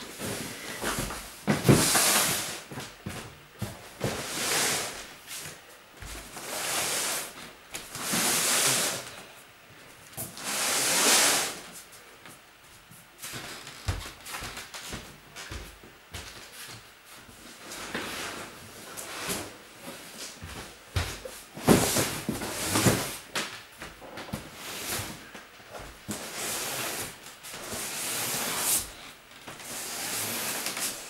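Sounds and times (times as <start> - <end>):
boxes and bags rustling: 0.0 - 12.0, 12.8 - 31.0.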